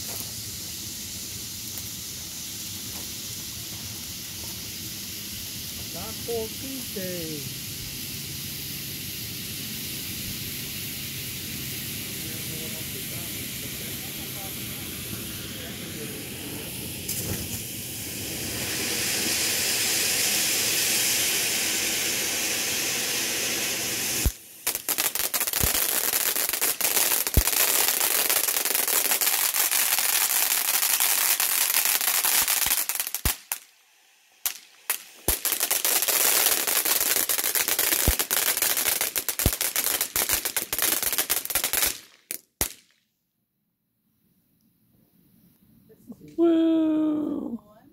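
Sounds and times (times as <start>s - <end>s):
firework fountain hissing: 0.0s - 42.9s, 46.1s - 47.6s
firework crackling and popping: 0.0s - 43.1s.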